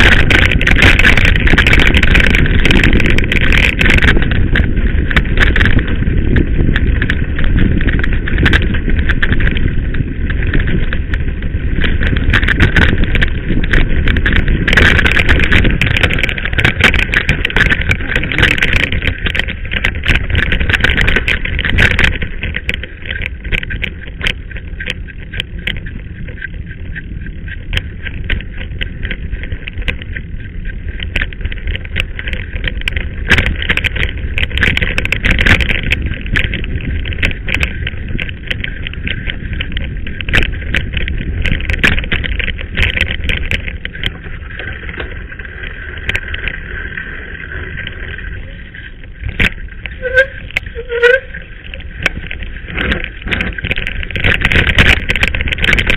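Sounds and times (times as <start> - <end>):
mountain bike rattling on dirt: 0.0 - 55.9
wind rumbling on microphone: 0.0 - 55.9.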